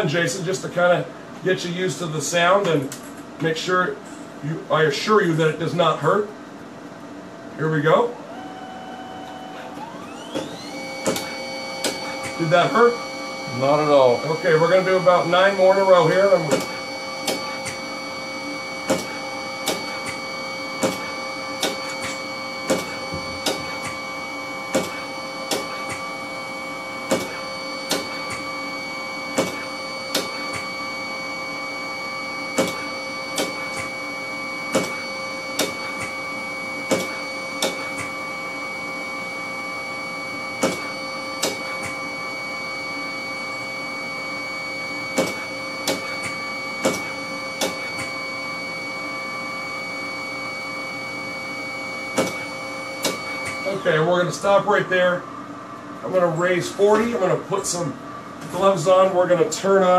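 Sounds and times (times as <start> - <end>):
machine hum with high tones: 0.0 - 59.9.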